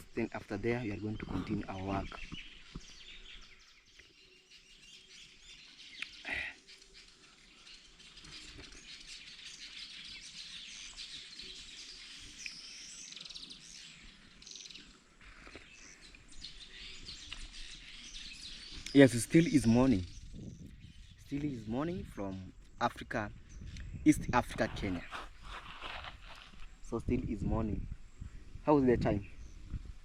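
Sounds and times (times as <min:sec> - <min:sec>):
birds chirping faintly: 0:00.0 - 0:30.0.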